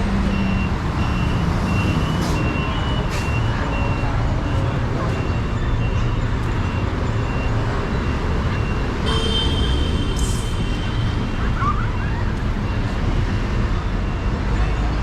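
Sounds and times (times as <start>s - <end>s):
city street traffic rumbling: 0.0s - 15.0s.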